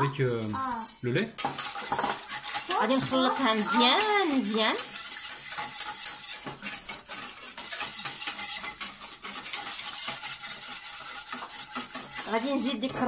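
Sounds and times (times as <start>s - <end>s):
whisk scraping a metal pan: 0.0s - 13.0s.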